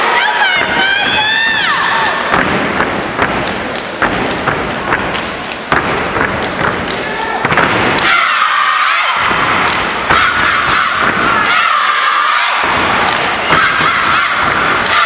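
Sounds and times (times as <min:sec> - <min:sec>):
stomping and clapping: 0:00.6 - 0:08.5, 0:09.1 - 0:15.0.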